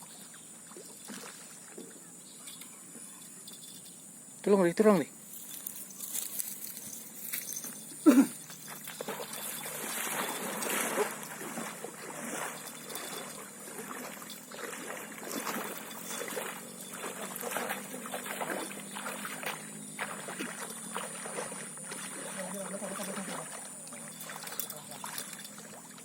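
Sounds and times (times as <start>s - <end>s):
water splashing and trickling: 0.0s - 3.8s, 4.5s - 26.0s.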